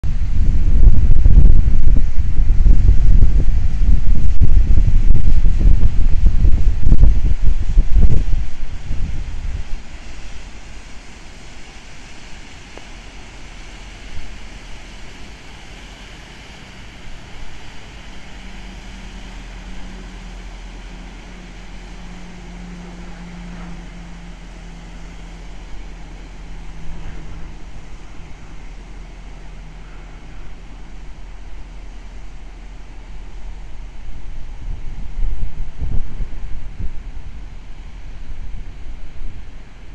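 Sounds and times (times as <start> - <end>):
boat engines humming: 0.0 - 39.9
boat wake washing: 0.0 - 39.9
wind buffeting microphone: 0.0 - 39.9.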